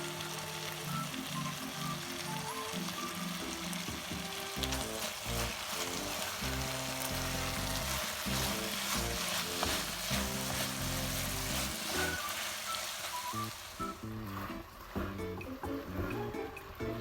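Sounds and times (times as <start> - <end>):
background music: 0.0 - 17.0
food sizzling in a pan: 0.0 - 17.0.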